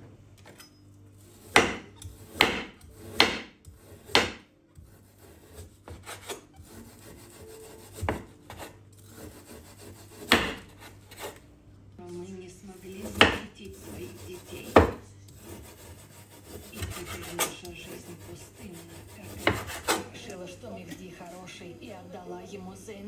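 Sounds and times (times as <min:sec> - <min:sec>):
scraping against wood: 0:01.2 - 0:11.5, 0:12.8 - 0:21.5.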